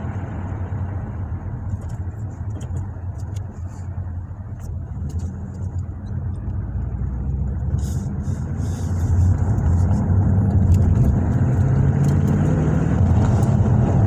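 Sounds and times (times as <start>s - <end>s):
car engine rumble inside cabin: 0.0s - 14.0s.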